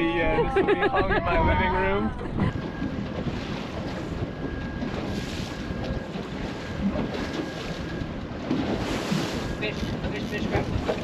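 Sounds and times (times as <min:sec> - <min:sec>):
boat motor running: 0:00.0 - 0:11.0
water washing along hull: 0:00.0 - 0:11.0
wind buffeting microphone: 0:00.0 - 0:11.0.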